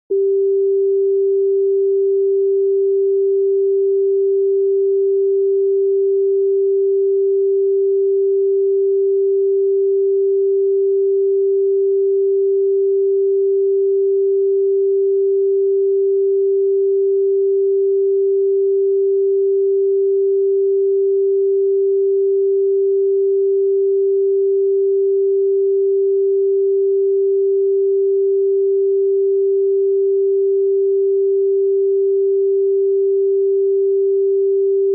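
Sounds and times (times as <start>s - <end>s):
steady sine tone: 0.1s - 34.9s.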